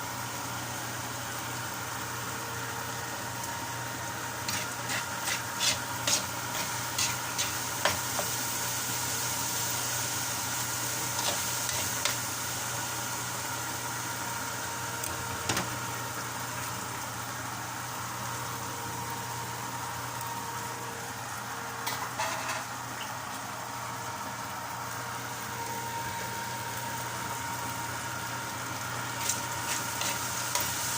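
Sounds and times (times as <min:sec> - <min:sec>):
vegetables sizzling in a pan: 0:00.0 - 0:30.9.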